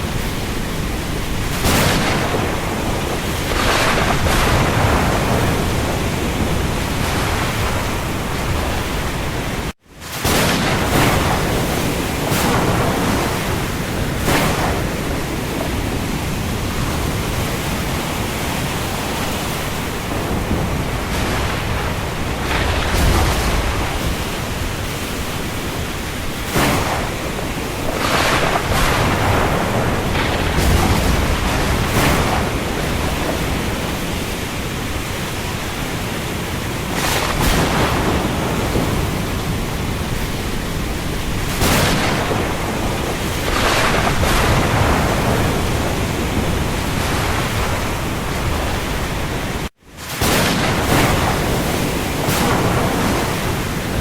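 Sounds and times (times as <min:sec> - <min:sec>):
steady rain: 0:00.0 - 0:54.0
wind over the sea: 0:00.0 - 0:54.0.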